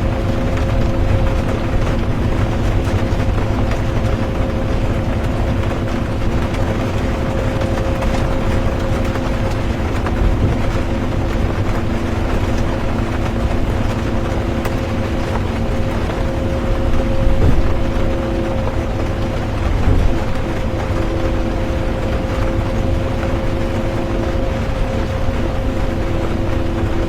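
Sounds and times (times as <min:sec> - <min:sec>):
bus engine hum: 0:00.0 - 0:27.0
road rumble: 0:00.0 - 0:27.0.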